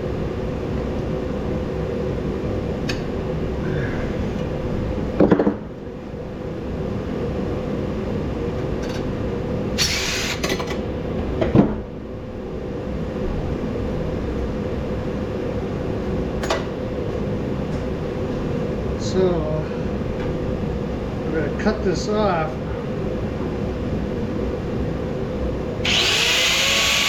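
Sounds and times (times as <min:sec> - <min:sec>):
heater humming drone: 0:00.0 - 0:27.0.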